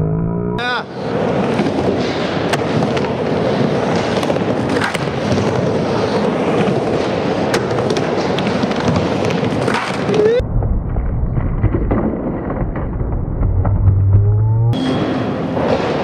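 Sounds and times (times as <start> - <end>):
skateboard wheels rolling: 0.9 - 14.2.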